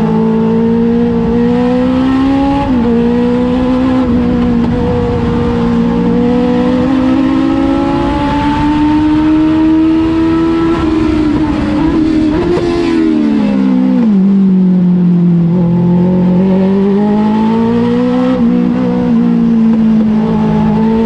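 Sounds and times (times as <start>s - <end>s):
race car engine revving high: 0.0s - 14.3s, 15.4s - 21.0s.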